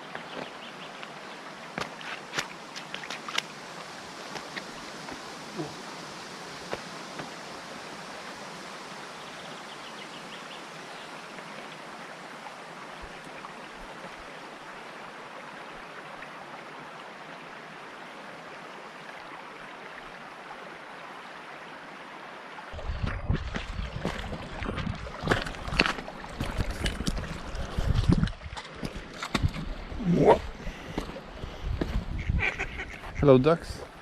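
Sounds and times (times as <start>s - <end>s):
flowing water: 0.0s - 34.0s.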